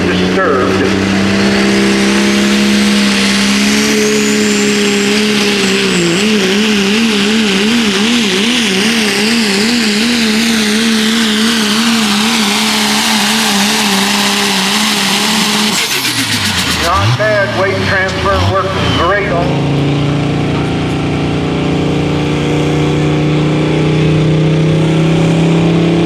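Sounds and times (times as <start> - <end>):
diesel truck engine at high rpm: 0.0 - 26.0.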